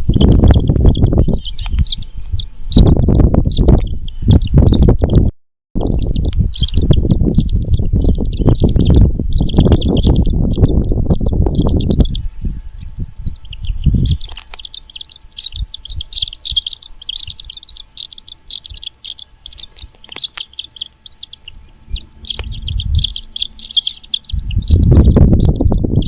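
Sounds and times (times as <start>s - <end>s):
birds chirping rapidly: 0.0s - 26.0s
low rumbling noise: 0.0s - 26.0s.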